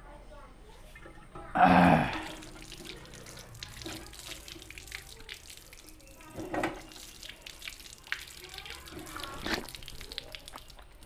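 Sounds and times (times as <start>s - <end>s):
water splashing and dripping: 0.9s - 11.0s.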